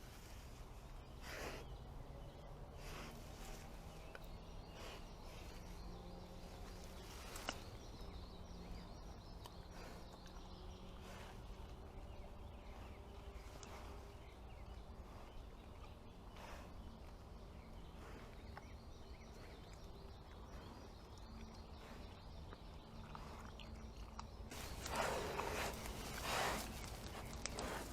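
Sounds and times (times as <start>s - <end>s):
faint outdoor background noise: 0.0s - 27.9s.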